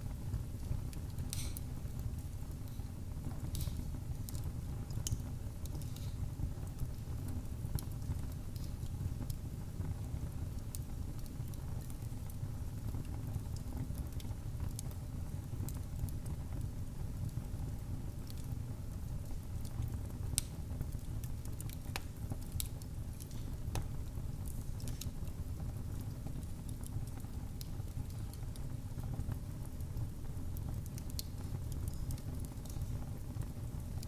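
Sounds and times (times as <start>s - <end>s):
fire crackling in fireplace: 0.0s - 34.0s.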